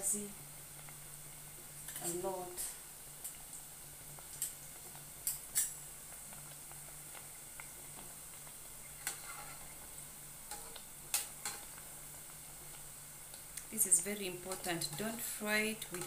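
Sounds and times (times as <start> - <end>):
dough deep-frying in oil: 0.0 - 16.0.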